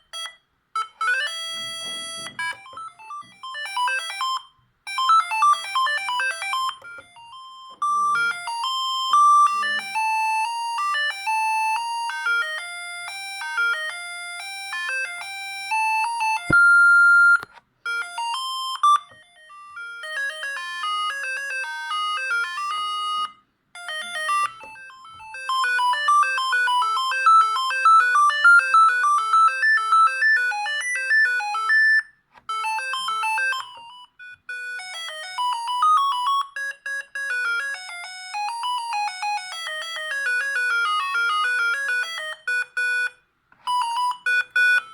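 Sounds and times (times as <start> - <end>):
mobile phone ringtone melodies: 0.0 - 44.9.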